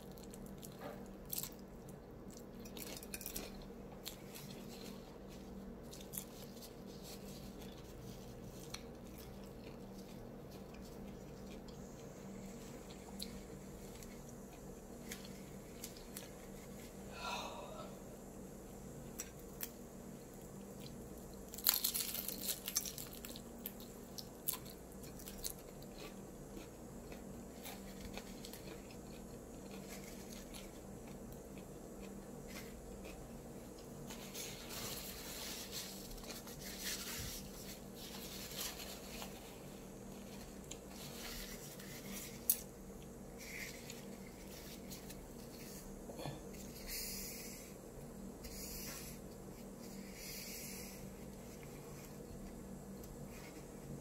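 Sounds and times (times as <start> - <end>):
crisp crunching of egg roll: 0.0 - 17.0, 19.0 - 46.8
faint steady hum: 0.0 - 54.0.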